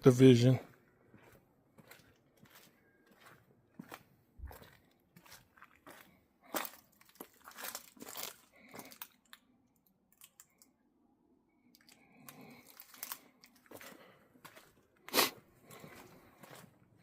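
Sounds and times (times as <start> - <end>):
crunching and crinkling: 1.1 - 10.8, 11.7 - 17.0.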